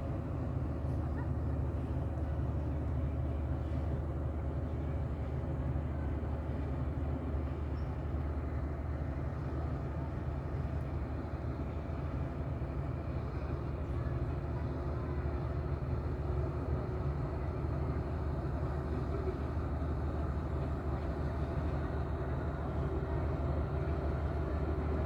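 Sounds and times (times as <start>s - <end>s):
boat engine droning: 0.1s - 25.0s.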